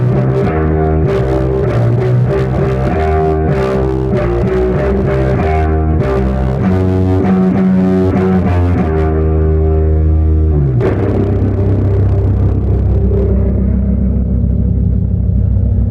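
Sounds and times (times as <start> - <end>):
distorted electric bass riff: 0.0 - 15.9.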